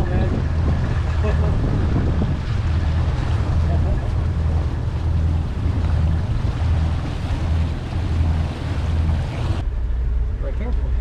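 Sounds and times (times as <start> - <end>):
wind noise on microphone: 0.0 - 10.4
boat engines rumbling: 0.0 - 11.0
water rushing past hull: 0.0 - 11.0.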